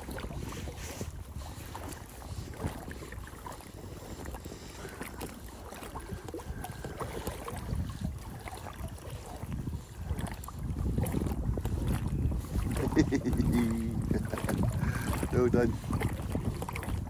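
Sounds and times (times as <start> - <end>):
water lapping and splashing: 0.0 - 17.0
wind rumbling on microphone: 0.0 - 17.0.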